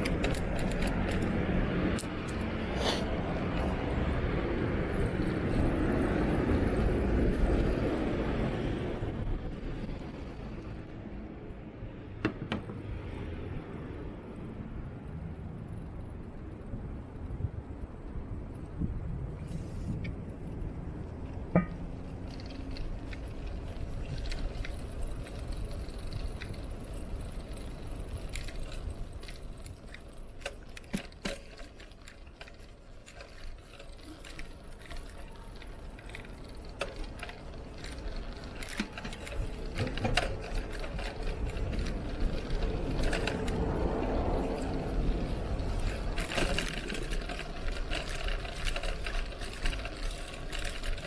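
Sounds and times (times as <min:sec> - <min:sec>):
wind rumbling on microphone: 0:00.0 - 0:30.8, 0:31.6 - 0:51.0
bike rattles and clicks: 0:00.0 - 0:51.0.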